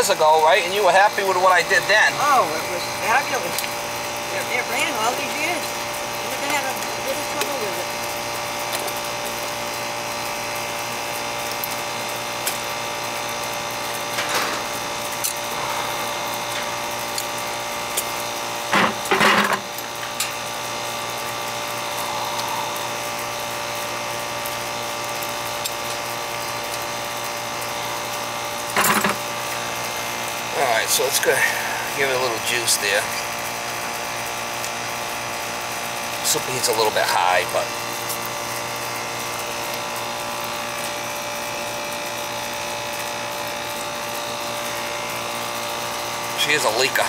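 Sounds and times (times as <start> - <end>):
air conditioner unit humming: 0.0 - 47.0.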